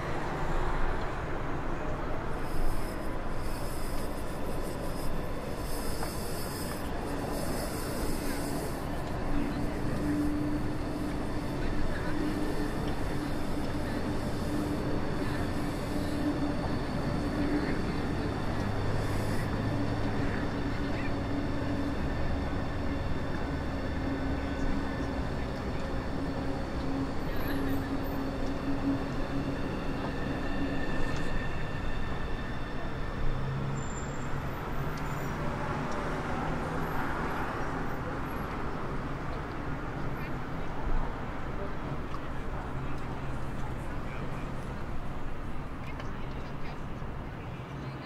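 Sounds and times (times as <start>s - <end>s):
train rumbling across bridge: 0.0s - 47.4s
city road traffic: 0.0s - 48.0s.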